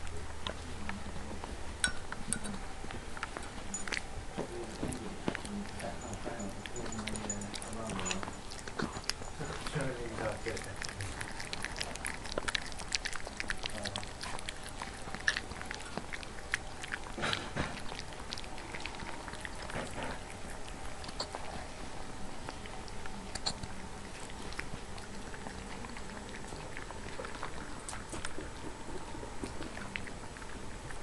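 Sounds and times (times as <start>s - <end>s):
puppies chewing: 0.0s - 31.0s.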